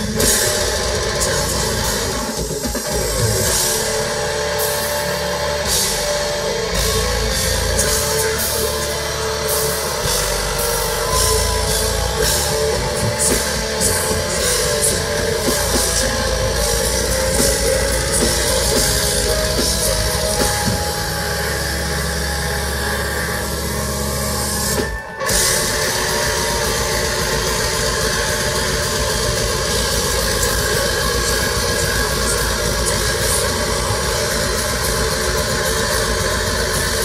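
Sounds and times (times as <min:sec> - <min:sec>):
heavily distorted guitars: 0:00.0 - 0:37.0
heavy low drumming: 0:00.0 - 0:37.0.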